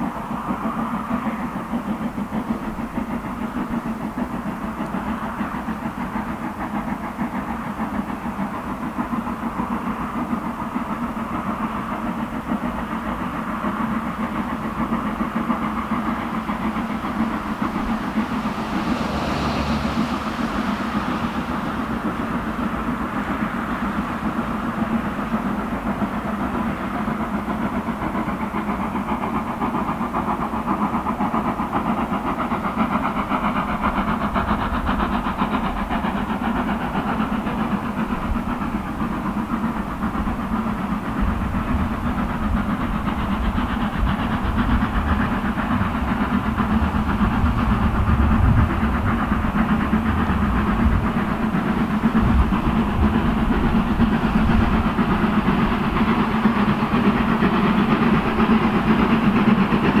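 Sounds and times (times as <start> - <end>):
distant steam locomotive: 0.0 - 60.0.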